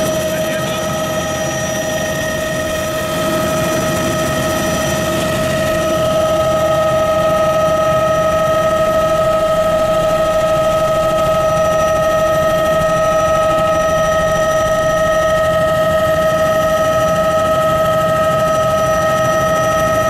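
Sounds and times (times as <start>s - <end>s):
helicopter rotor rumble: 0.0s - 20.0s
helicopter turbine whine: 0.0s - 20.0s.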